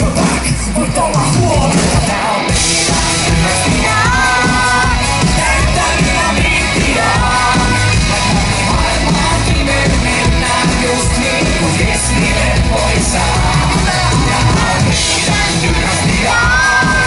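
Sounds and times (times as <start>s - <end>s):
live band playing amplified music: 0.0s - 17.0s
person singing: 0.0s - 17.0s
pounding bass beat: 0.0s - 17.0s.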